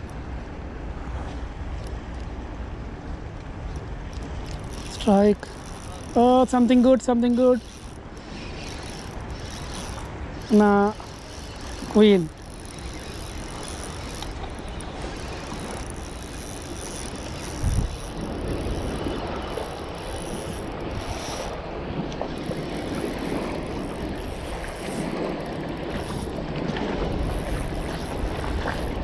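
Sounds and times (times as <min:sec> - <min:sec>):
wind buffeting microphone: 0:00.0 - 0:29.0
fishing reel whirring: 0:04.1 - 0:29.0.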